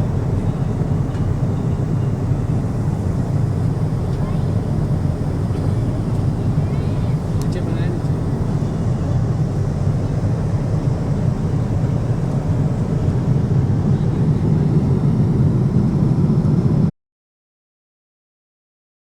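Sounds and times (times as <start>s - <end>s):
airliner cabin rumble in flight: 0.0s - 16.9s.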